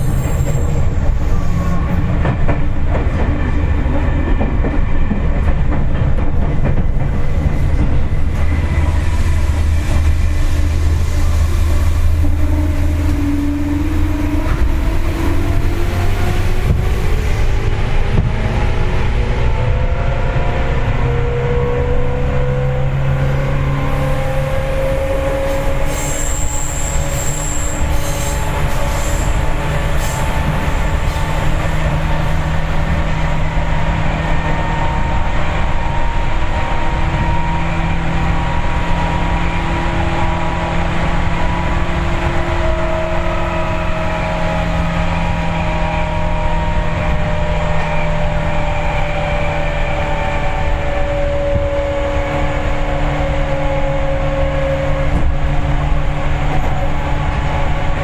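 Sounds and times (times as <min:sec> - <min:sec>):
train running gear hum: 0:00.0 - 0:58.0
train wheel-on-rail rumble: 0:00.0 - 0:58.0.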